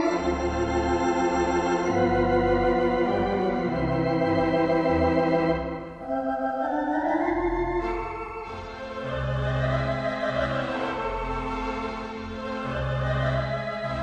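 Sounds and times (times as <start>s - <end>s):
organ music: 0.0s - 14.0s.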